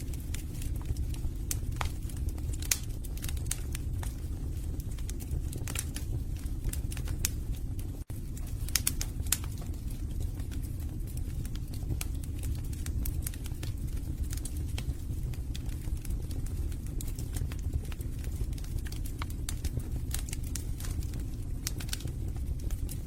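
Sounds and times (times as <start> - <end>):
flames rumbling: 0.0 - 23.0
logs crackling and popping: 0.0 - 23.0.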